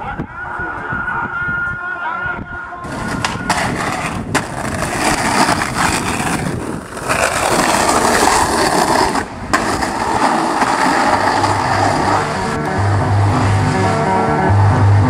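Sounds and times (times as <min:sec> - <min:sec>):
skateboard wheels rolling on asphalt: 0:02.8 - 0:15.0.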